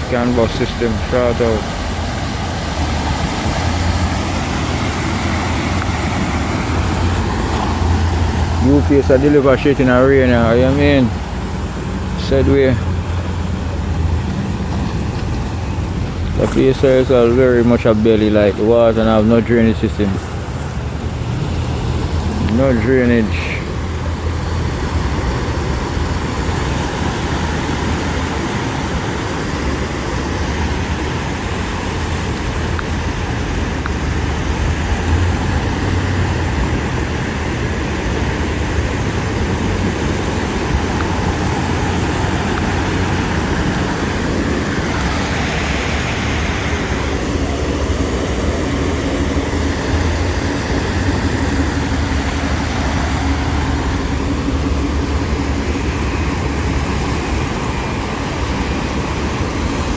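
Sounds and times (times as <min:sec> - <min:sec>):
road traffic on wet street: 0:00.0 - 0:59.9
vehicle passing loudly: 0:00.0 - 0:59.9.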